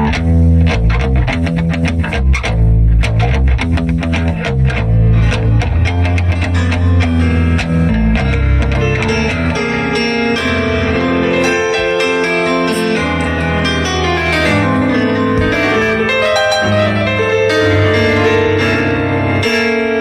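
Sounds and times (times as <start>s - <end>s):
keyboard piano chords: 0.0s - 20.0s.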